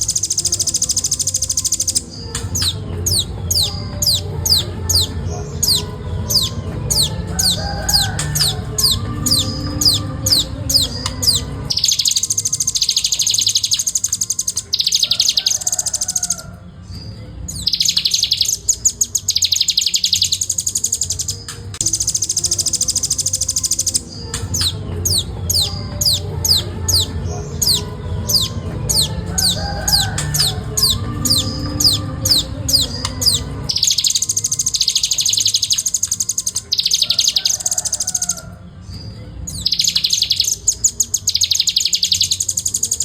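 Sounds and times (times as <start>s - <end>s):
nuthatch singing: 0.0s - 43.0s.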